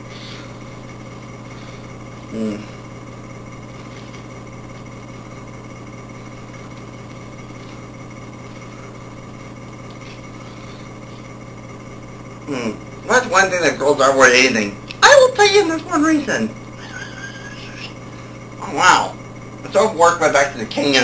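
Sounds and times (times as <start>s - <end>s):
faint high whine: 0.0s - 21.0s
mechanical hum with low drone: 0.0s - 21.0s.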